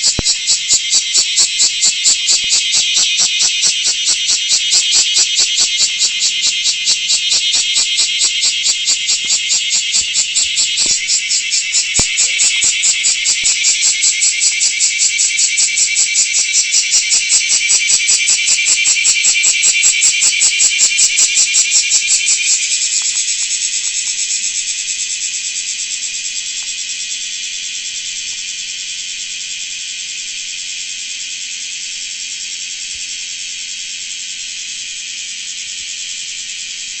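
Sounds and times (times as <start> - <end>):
cicada buzzing: 0.0 - 37.0.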